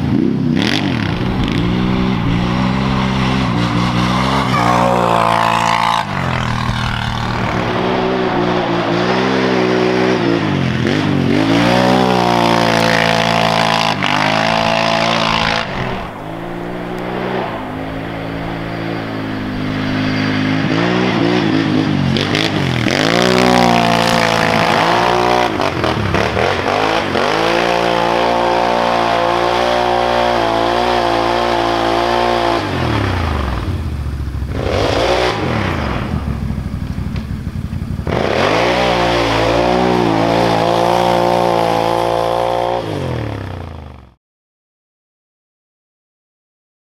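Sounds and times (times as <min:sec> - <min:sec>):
engine revving hard: 0:00.0 - 0:36.8, 0:37.9 - 0:44.1.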